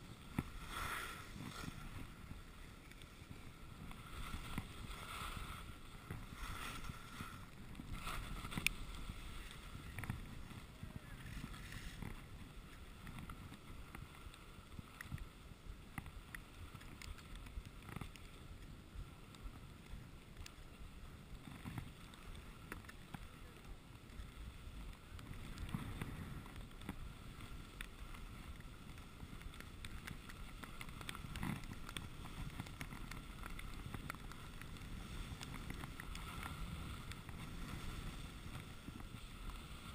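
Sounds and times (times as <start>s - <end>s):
wind on microphone: 0.0s - 20.2s, 20.8s - 39.9s
skis running over snow: 0.0s - 39.9s.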